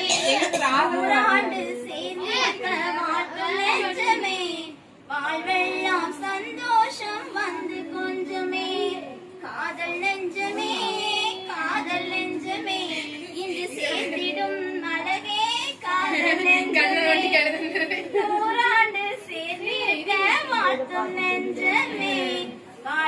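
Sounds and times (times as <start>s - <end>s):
women singing unaccompanied: 0.0s - 23.0s.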